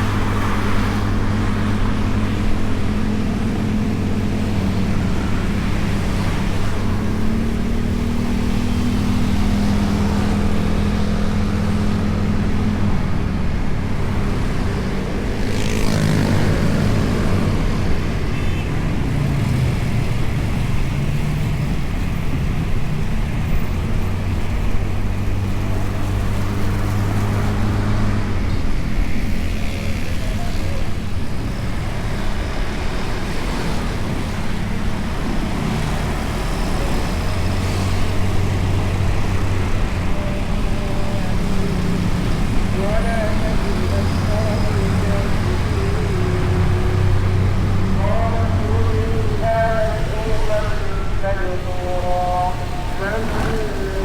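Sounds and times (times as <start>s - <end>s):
road and traffic noise: 0.0s - 54.0s.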